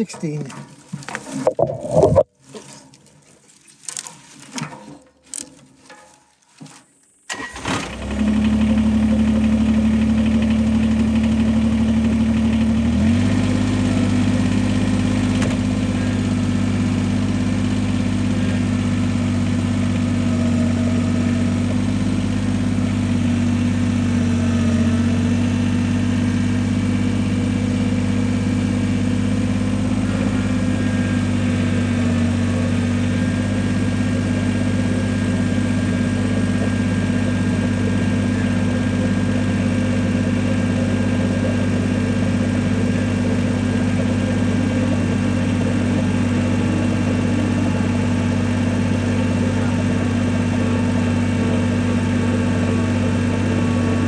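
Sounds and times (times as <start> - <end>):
engine starting and idling: 7.2 - 54.0.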